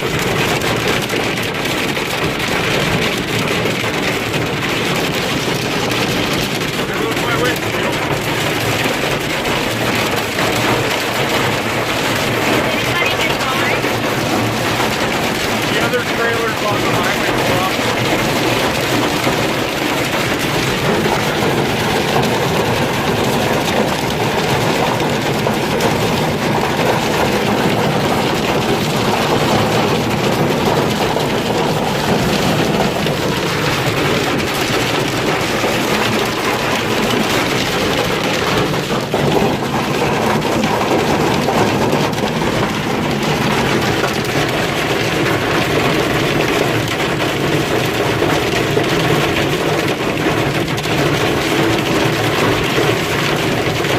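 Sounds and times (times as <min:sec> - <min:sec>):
hailstones clattering: 0:00.0 - 0:53.9.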